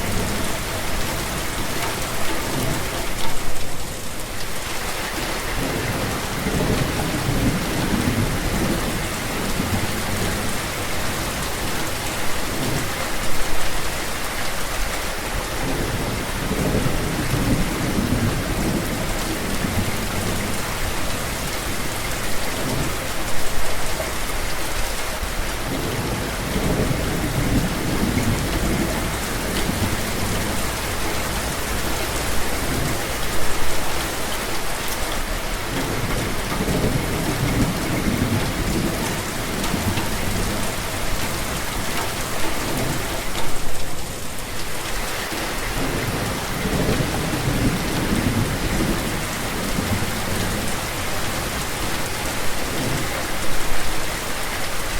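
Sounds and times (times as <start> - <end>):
rain hissing: 0.0 - 54.9.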